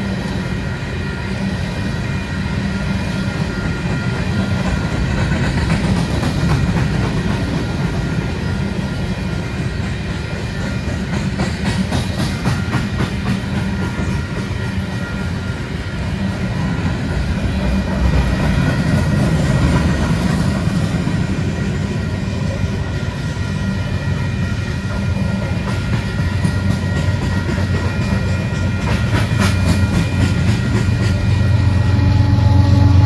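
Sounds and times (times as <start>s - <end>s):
diesel locomotive engine hum: 0.0s - 33.0s
rail clacks: 0.0s - 33.0s
train wheels rumbling on track: 0.0s - 33.0s.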